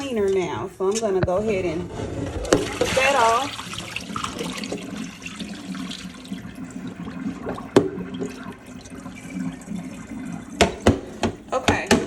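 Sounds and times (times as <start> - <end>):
water running in a sink: 2.3 - 12.0.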